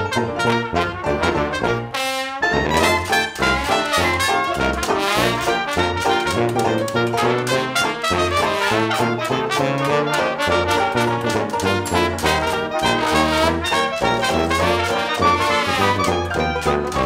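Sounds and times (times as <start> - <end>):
swing dance music with brass: 0.0 - 17.0.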